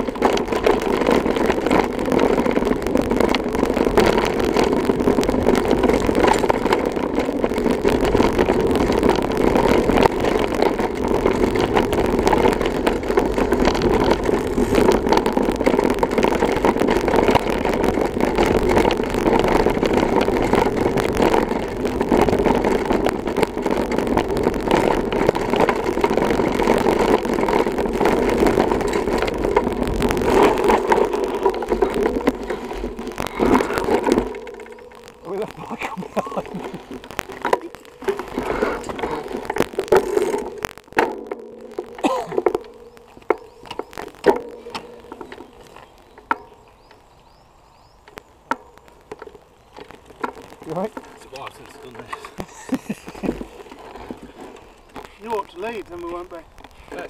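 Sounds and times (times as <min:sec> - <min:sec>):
bike frame and cable rattle: 0:00.0 - 0:57.0
knobby tyre rumble: 0:00.0 - 0:57.0
small knocks from rough ground: 0:00.0 - 0:57.0
wind noise: 0:00.0 - 0:57.0.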